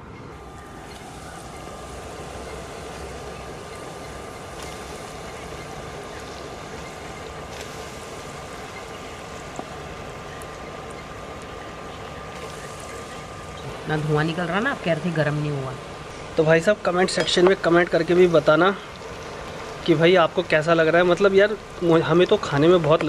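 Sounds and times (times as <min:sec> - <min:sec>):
fries sizzling in hot oil: 0:00.0 - 0:23.0.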